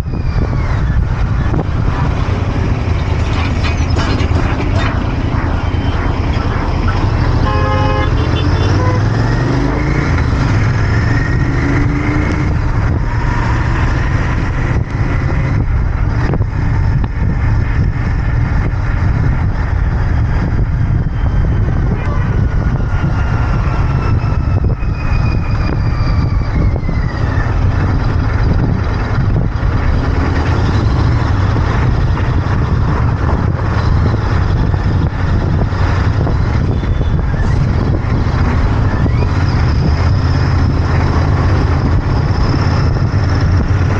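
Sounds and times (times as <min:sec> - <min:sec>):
passing traffic: 0:00.0 - 0:43.9
wind and road rush: 0:00.0 - 0:43.9.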